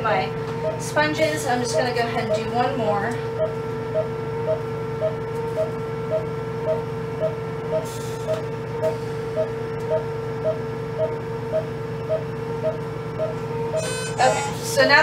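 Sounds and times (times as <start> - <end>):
patient monitor beeping: 0.0 - 15.0
steady electronic tone and hum: 0.0 - 15.0.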